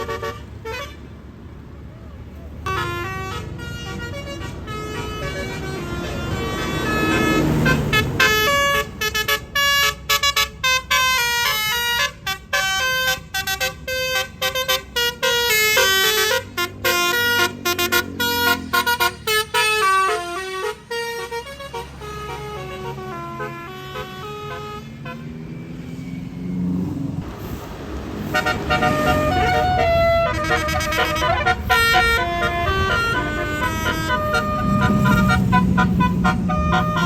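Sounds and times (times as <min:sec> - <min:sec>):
bus air horn playing a tune: 0:00.0 - 0:01.2, 0:02.6 - 0:25.6, 0:27.4 - 0:37.0
low vehicle noise: 0:00.0 - 0:37.0.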